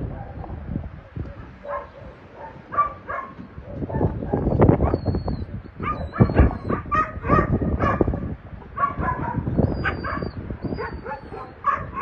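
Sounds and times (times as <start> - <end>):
dogs barking and yelping: 0.0 - 12.0
wind rumble on microphone: 0.0 - 12.0.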